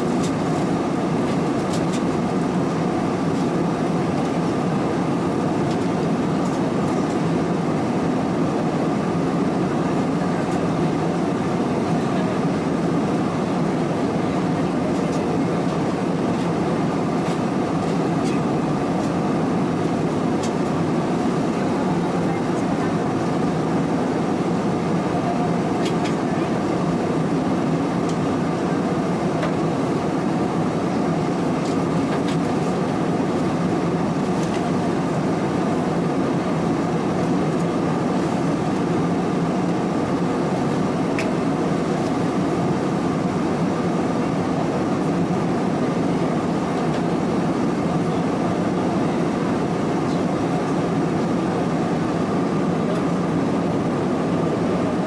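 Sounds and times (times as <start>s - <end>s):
airplane cabin roar: 0.0s - 55.0s.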